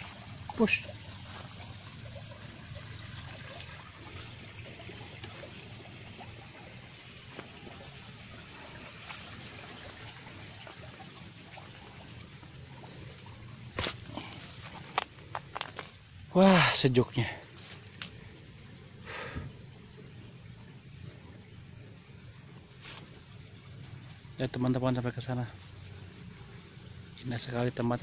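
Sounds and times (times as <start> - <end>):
water trickling: 0.0 - 28.0.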